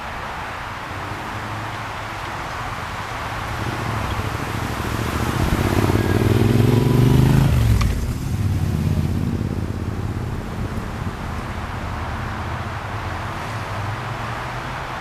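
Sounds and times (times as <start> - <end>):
wind noise: 0.0 - 13.1
vehicle engine passing by: 0.6 - 15.0.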